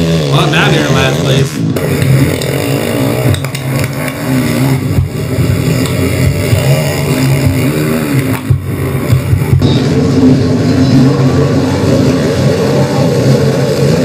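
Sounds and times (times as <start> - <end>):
quad engines revving: 0.0 - 14.0.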